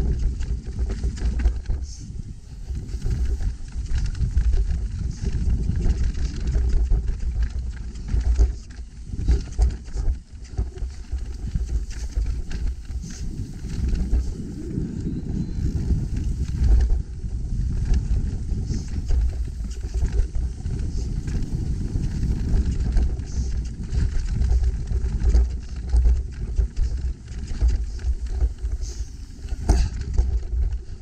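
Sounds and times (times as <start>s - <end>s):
mountain bike rattling on rough trail: 0.0s - 31.0s
wind buffeting microphone: 0.0s - 31.0s.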